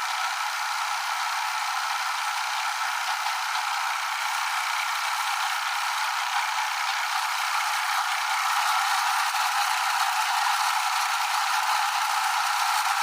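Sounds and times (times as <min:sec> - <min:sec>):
machine running steadily: 0:00.0 - 0:13.0.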